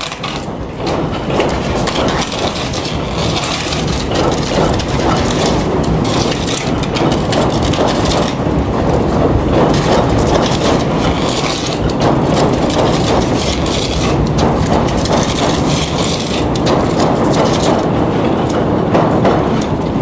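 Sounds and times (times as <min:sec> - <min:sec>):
subway train rumbling on track: 0:00.0 - 0:20.0
wheels rattling and clacking: 0:00.0 - 0:20.0.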